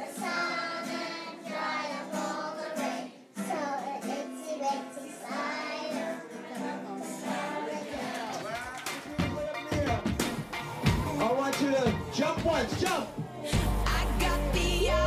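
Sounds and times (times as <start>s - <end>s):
children singing: 0.0s - 15.0s
strummed acoustic guitar: 0.0s - 15.0s.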